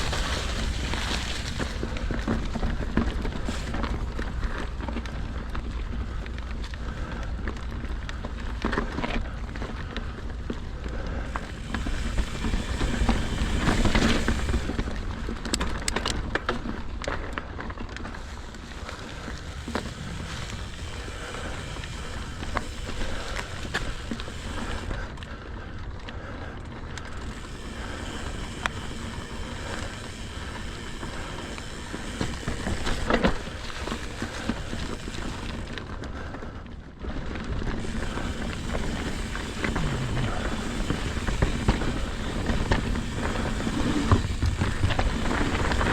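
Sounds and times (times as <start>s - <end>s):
bike rattling and knocking: 0.0s - 45.9s
tyre noise on dirt trail: 0.0s - 45.9s.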